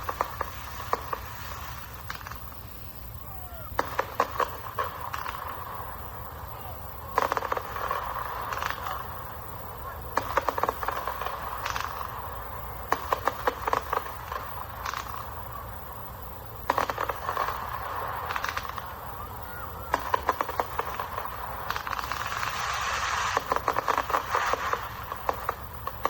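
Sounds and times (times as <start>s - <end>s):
firework pops and crackles: 0.0s - 26.0s
steady background noise: 0.0s - 26.0s.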